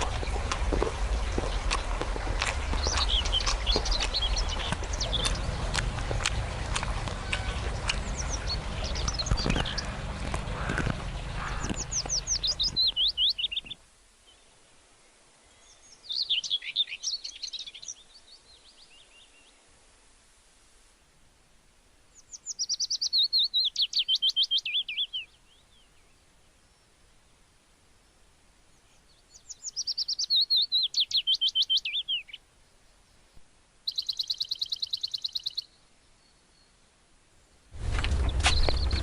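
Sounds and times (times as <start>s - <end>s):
songbird singing: 0.0s - 19.7s, 22.0s - 39.0s.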